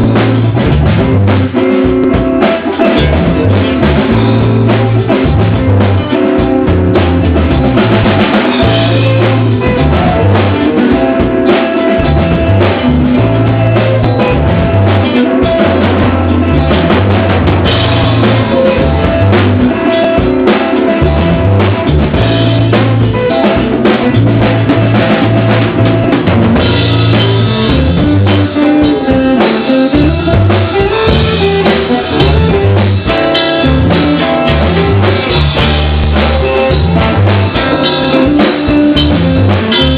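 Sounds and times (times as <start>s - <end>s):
loud music with drum kit: 0.0s - 39.9s
steady bass line: 0.0s - 39.9s.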